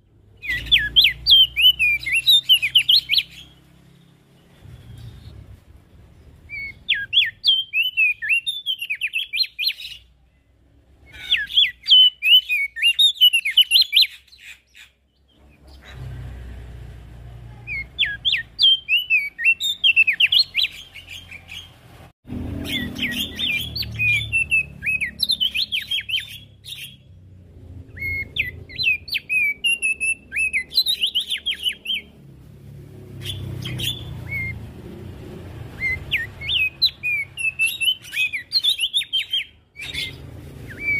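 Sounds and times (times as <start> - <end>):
bird twittering song: 0.0 - 16.2, 17.6 - 40.9.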